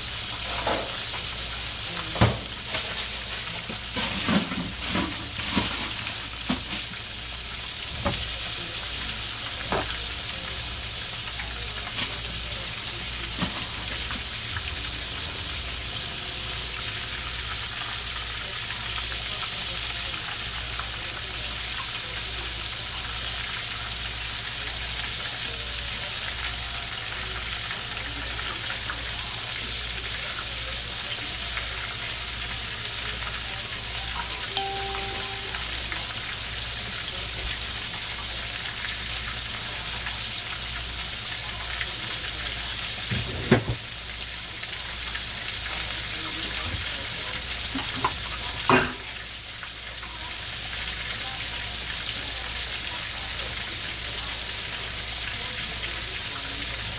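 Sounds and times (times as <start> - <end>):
chicken sizzling in hot oil: 0.0 - 56.9.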